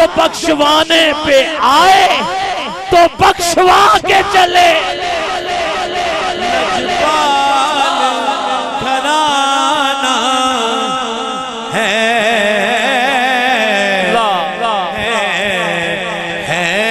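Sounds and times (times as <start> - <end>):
man singing into a microphone: 0.0 - 16.9.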